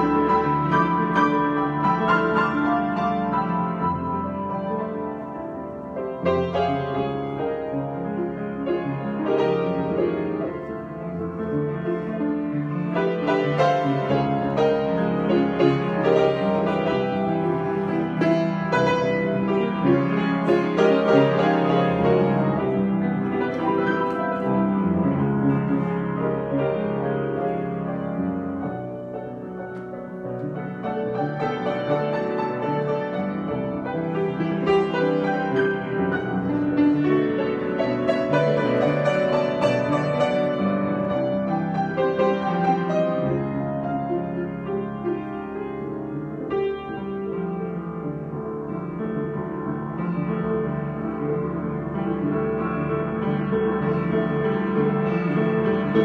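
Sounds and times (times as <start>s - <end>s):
solo piano improvisation: 0.0s - 56.0s.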